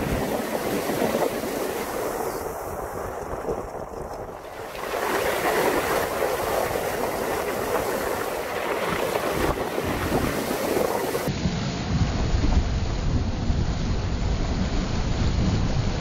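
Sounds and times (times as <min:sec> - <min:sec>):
water splashing and spraying: 0:00.0 - 0:16.0
wind buffeting microphone: 0:00.0 - 0:16.0.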